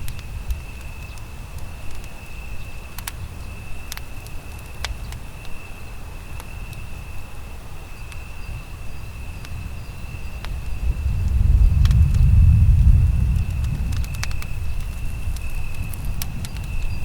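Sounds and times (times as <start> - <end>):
campfire crackling and popping: 0.0 - 17.0
constant low rumble: 0.0 - 17.0
high-pitched insect trill: 0.0 - 17.0.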